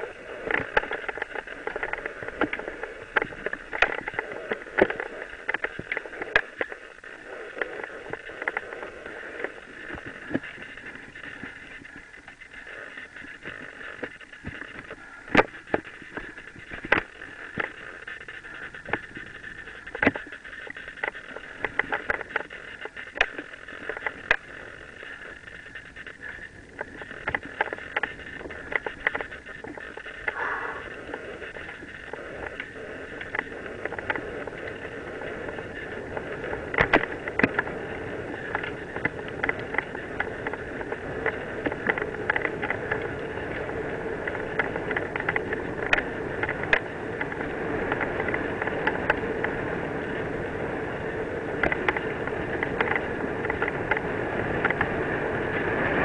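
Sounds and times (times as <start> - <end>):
bike rattles and knocks: 0.0 - 56.0
bike tyre noise: 0.0 - 56.0
wind on microphone: 0.0 - 56.0.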